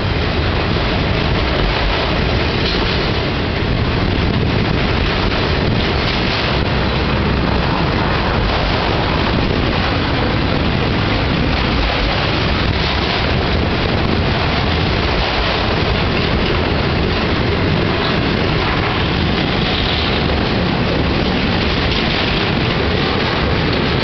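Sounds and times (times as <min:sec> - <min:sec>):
freight train wheels on rail: 0:00.0 - 0:24.0.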